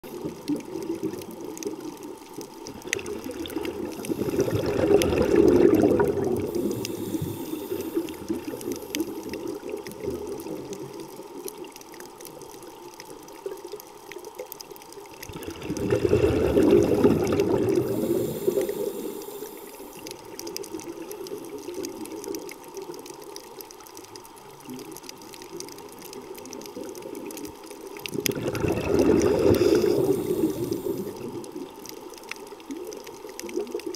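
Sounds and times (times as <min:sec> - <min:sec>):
underwater rushing bubbling noise: 0:00.0 - 0:11.8, 0:15.1 - 0:23.2, 0:24.6 - 0:33.9
faint crackling clicks: 0:00.1 - 0:33.9.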